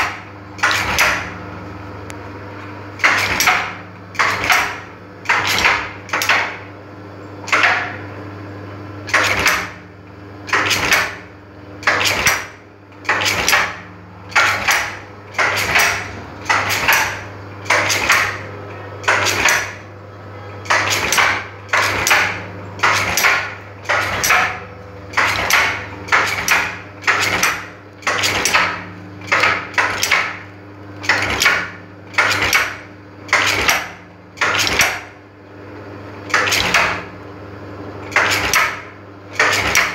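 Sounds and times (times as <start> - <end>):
mechanical clatter: 0.0 - 1.3, 2.9 - 6.7, 7.4 - 8.0, 9.0 - 9.8, 10.4 - 19.9, 20.6 - 35.2, 38.0 - 39.9
machine motor humming: 0.0 - 39.9.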